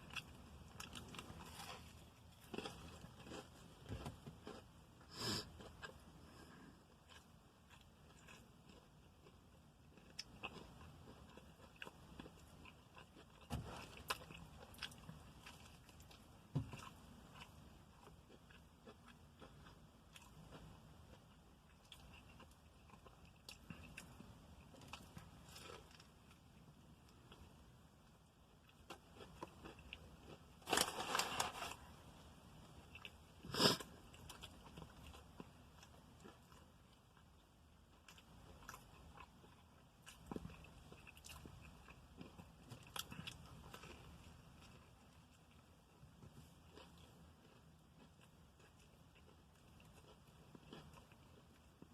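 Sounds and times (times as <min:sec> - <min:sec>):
chewing and biting crunches: 0:00.0 - 0:04.8, 0:05.4 - 0:27.5, 0:28.6 - 0:31.9, 0:32.8 - 0:51.9.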